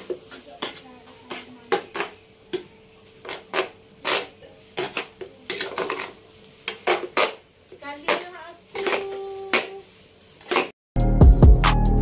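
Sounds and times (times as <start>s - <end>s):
metal spoon scraping frying pan: 0.0s - 10.8s.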